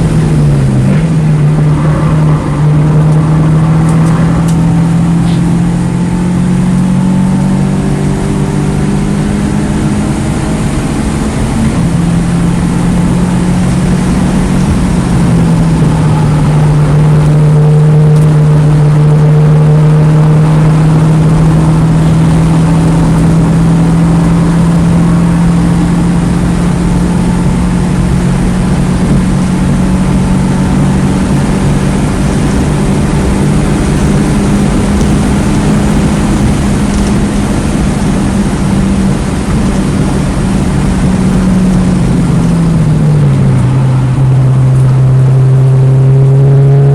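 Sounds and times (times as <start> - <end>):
car engine running: 0.0 - 46.9
road and wind noise: 0.0 - 46.9.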